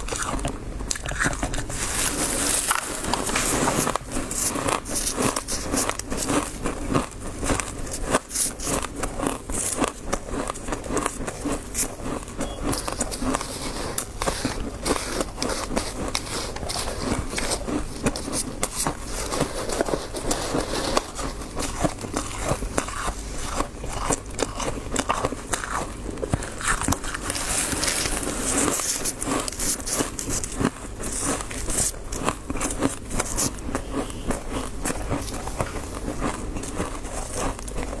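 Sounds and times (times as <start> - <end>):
crunching of crisp frost: 0.0 - 38.0.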